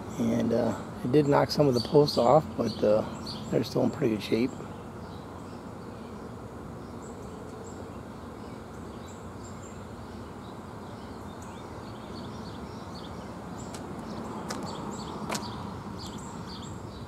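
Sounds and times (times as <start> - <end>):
small birds chirping: 0.0 - 17.0
steady background hum: 0.0 - 17.0.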